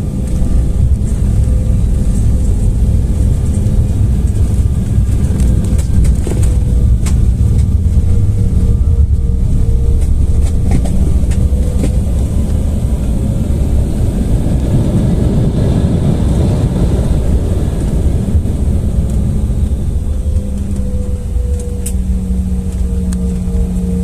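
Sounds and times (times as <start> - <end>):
airliner engines and rolling gear: 0.0 - 24.0.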